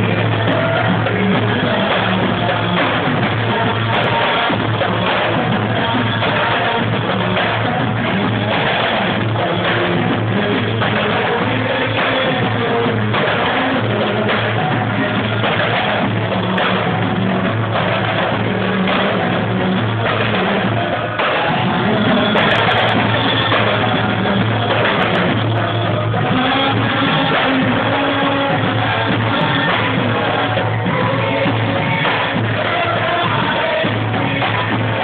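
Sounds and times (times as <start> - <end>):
hand drums playing: 0.0 - 35.0.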